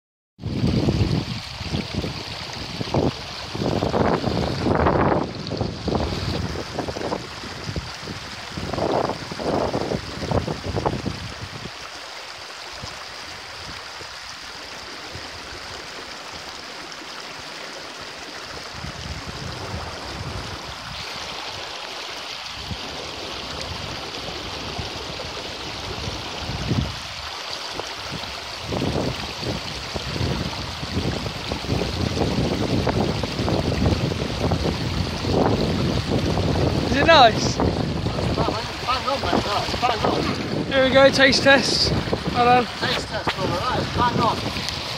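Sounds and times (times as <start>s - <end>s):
wind buffeting microphone: 0.4s - 11.8s, 18.4s - 21.7s, 22.4s - 44.9s
stream rushing over boulders: 0.4s - 44.9s.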